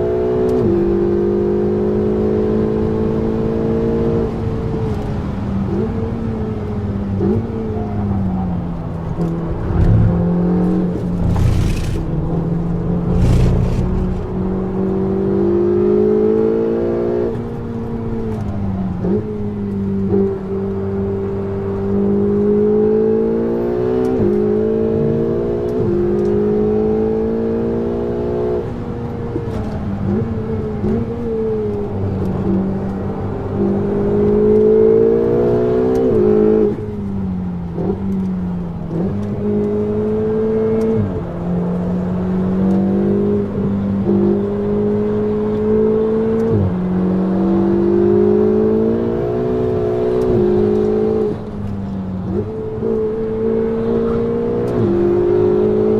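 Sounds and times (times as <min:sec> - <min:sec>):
sports car engine accelerating: 0:00.0 - 0:55.9.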